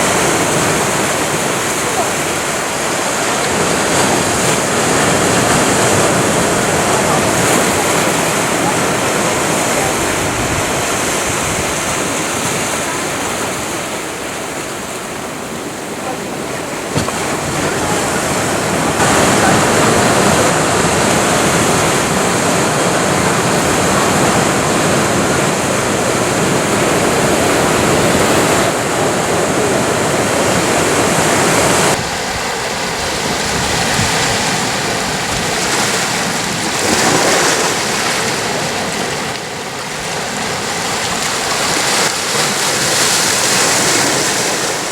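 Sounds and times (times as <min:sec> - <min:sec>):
waves breaking on rocks: 0:00.0 - 0:44.9.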